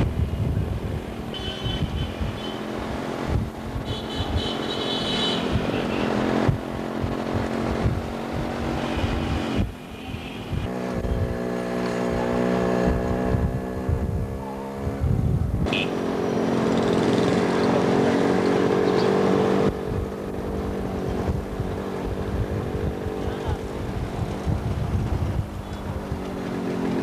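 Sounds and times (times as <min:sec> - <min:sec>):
motorcycle and scooter engines: 0:00.0 - 0:27.0
street noise: 0:00.0 - 0:27.0.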